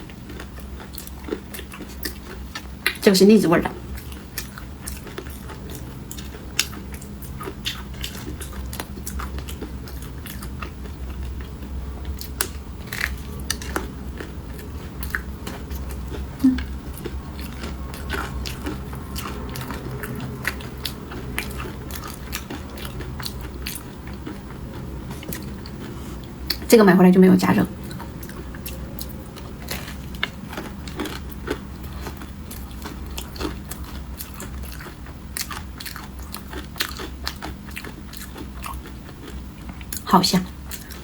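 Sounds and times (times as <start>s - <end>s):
person chewing crunchy snack: 0.0s - 3.0s, 3.8s - 26.7s, 27.8s - 41.0s.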